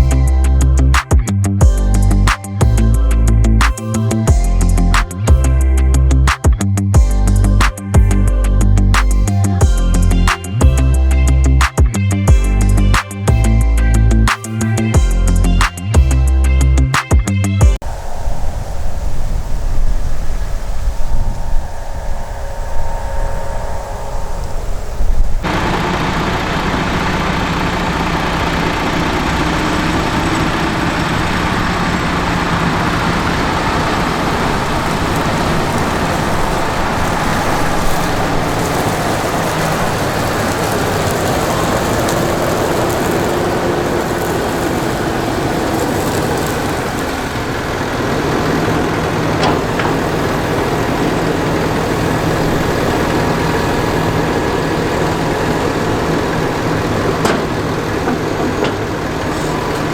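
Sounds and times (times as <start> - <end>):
diesel engine drone: 0.0 - 59.9
rushing mechanical noise: 0.0 - 59.9.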